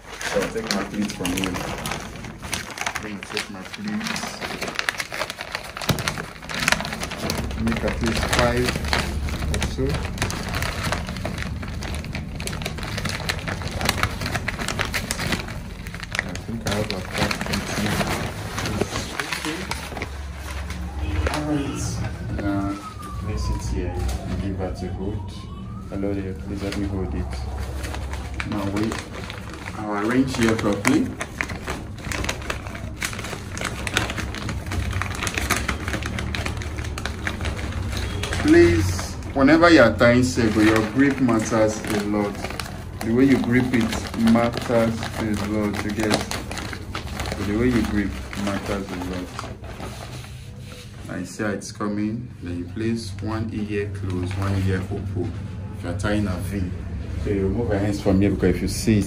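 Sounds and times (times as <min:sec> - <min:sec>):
stiff fabric crackling and rustling: 0:00.0 - 0:51.4.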